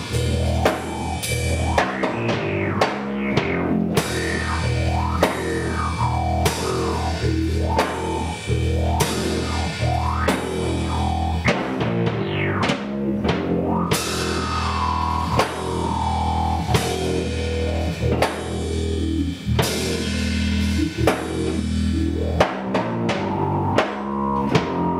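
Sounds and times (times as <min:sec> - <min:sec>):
drum hits and cymbal crashes: 0:00.0 - 0:24.8
chugging guitar riff: 0:00.0 - 0:24.9
heavy rock music: 0:00.0 - 0:24.9.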